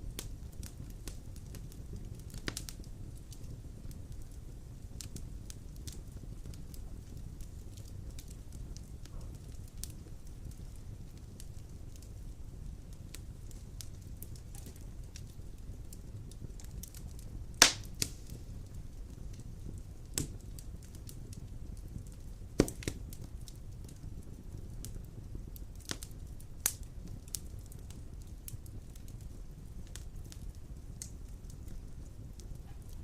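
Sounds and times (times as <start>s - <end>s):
wood fire crackling: 0.0s - 33.0s
sharp pops of fire: 0.1s - 33.0s.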